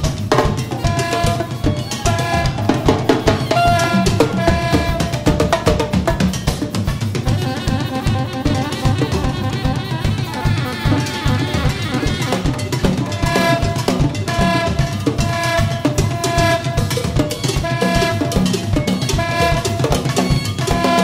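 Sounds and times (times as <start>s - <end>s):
busy drum kit and percussion: 0.0s - 21.0s
sustained saxophone notes: 0.7s - 5.6s, 7.2s - 21.0s.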